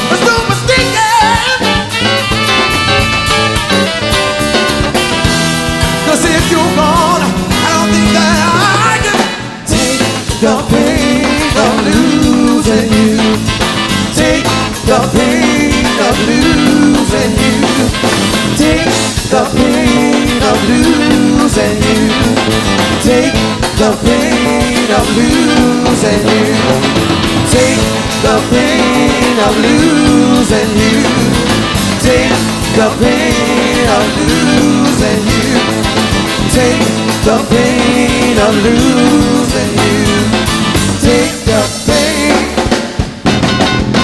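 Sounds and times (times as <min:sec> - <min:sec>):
live band playing: 0:00.0 - 0:44.0.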